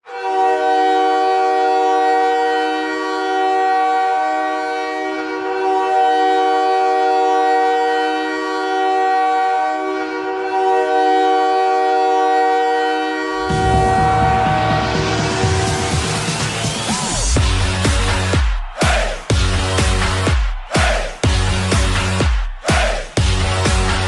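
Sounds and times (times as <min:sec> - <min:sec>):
goal horn chord: 0:00.0 - 0:24.0.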